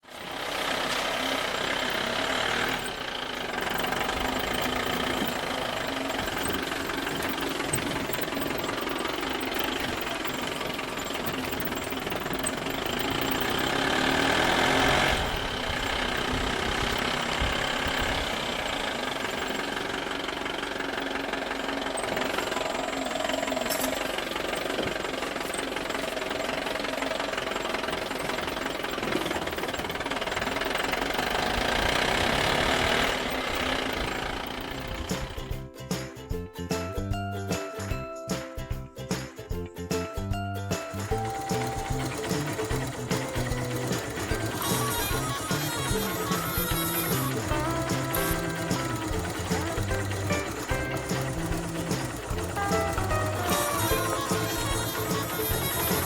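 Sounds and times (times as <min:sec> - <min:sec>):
small motor running with knocking rattle: 0:00.0 - 0:36.4, 0:40.7 - 0:56.0.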